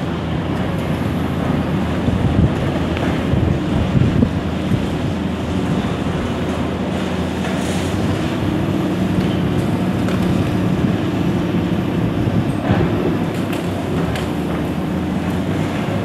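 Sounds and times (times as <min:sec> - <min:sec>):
excavator diesel engines running: 0:00.0 - 0:16.0.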